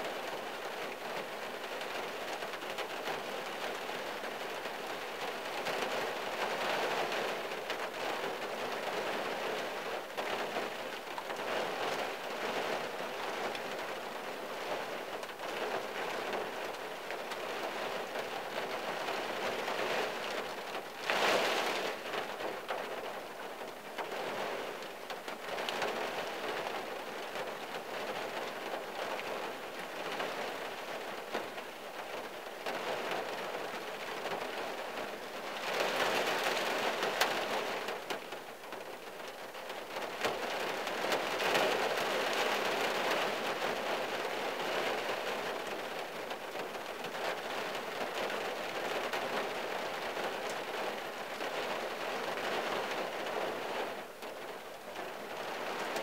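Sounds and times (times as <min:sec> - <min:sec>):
rain drumming on car roof: 0:00.0 - 0:56.0.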